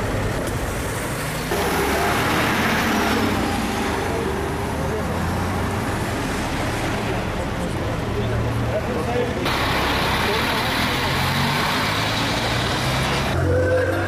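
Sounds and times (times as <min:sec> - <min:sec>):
road traffic: 0:00.0 - 0:14.0
vehicle passing: 0:00.8 - 0:14.0.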